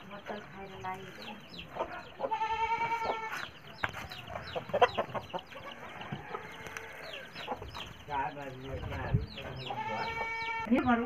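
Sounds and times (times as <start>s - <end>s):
chicks peeping: 0.0s - 11.0s
hen clucking: 0.0s - 11.0s.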